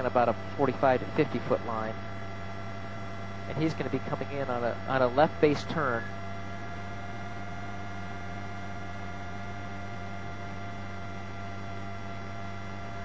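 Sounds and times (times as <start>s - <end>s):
steady multi-tone hum: 0.0s - 13.0s.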